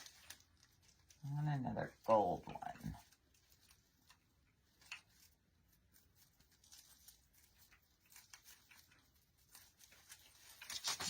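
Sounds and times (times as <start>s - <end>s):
rustling and light ticks: 0.0s - 11.0s.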